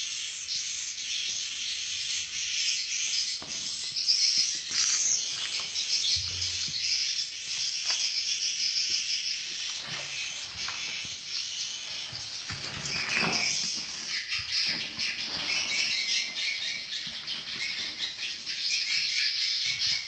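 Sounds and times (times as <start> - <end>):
birds twittering: 0.0 - 20.0.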